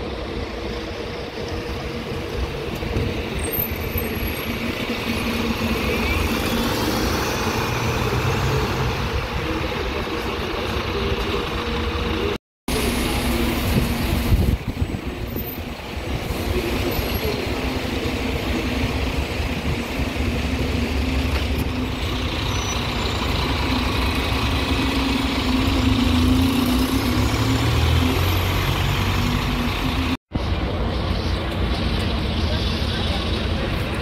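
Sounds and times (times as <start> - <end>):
bus engine running: 0.0 - 34.0.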